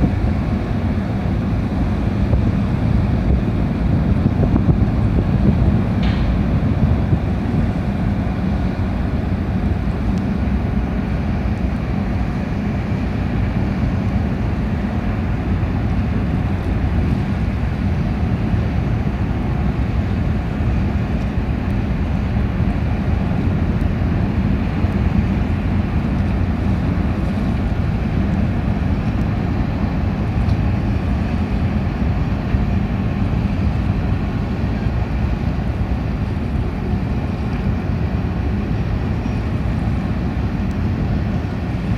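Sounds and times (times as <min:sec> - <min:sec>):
ship engines rumbling: 0:00.0 - 0:41.9.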